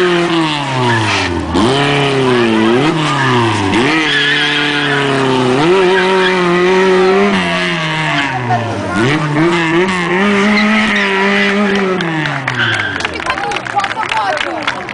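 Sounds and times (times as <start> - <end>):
car engine revving hard: 0.0 - 13.3
tyres squealing: 0.7 - 13.4.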